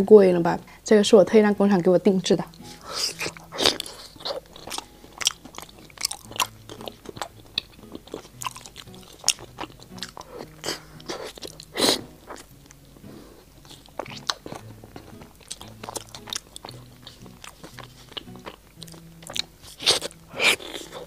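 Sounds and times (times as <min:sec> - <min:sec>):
biting and chewing soft food: 0:02.4 - 0:21.0.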